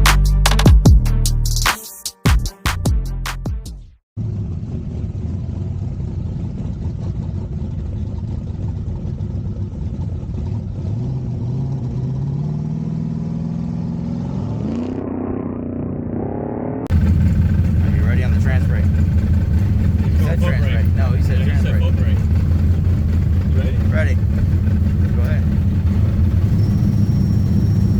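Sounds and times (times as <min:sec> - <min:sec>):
vehicle engine accelerating: 0:04.2 - 0:27.9.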